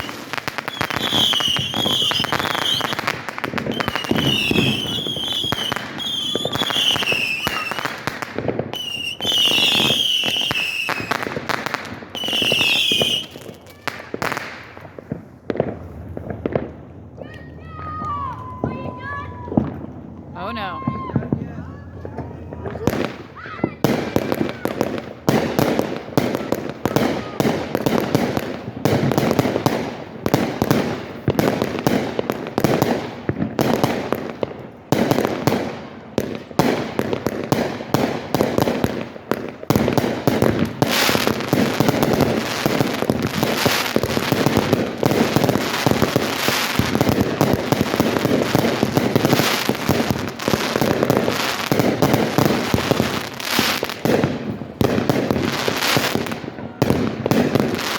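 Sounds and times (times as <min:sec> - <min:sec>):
fireworks cracking and banging: 0:00.0 - 0:57.9.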